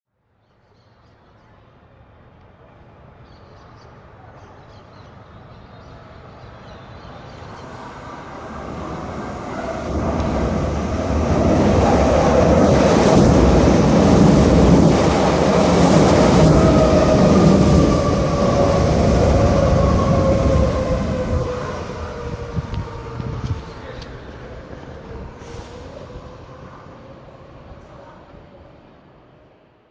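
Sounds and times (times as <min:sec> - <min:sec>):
train rumbling past: 0:05.9 - 0:29.9.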